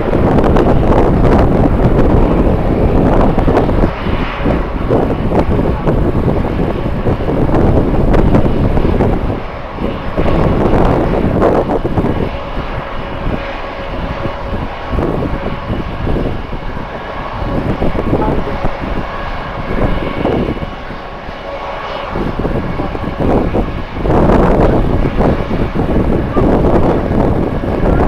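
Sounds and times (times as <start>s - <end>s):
jet engines whining: 0.0s - 28.0s
wind buffeting microphone: 0.0s - 28.0s.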